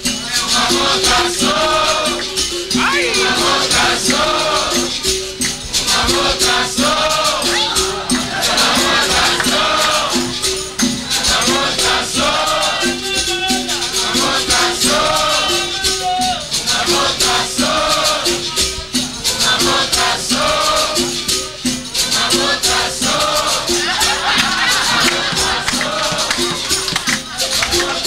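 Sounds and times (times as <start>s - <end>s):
berimbau rhythm: 0.0s - 28.0s
shaken rattle beat: 0.0s - 28.0s.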